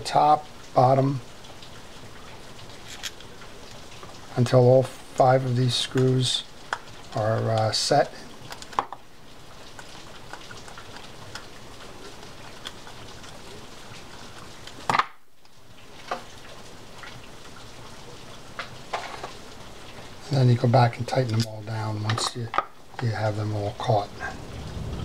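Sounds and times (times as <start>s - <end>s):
steady background hiss: 0.0s - 10.4s, 11.2s - 25.0s.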